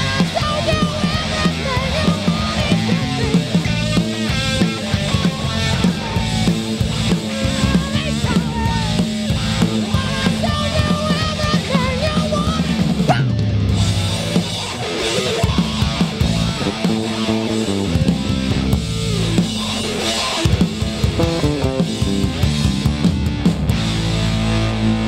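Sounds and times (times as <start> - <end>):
electric guitar lead: 0.0 - 25.0
rock band playing live: 0.0 - 25.0.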